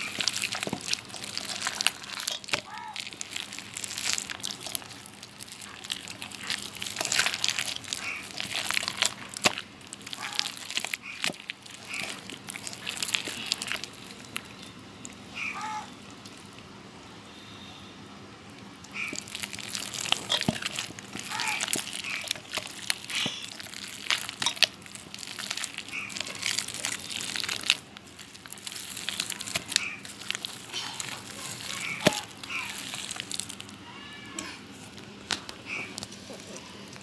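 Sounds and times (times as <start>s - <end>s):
wet squelching of fruit pulp: 0.0s - 16.7s, 18.6s - 37.0s.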